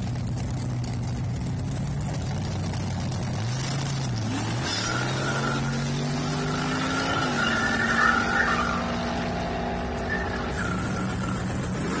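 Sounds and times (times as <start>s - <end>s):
drag racing engines at full throttle: 0.0s - 12.0s.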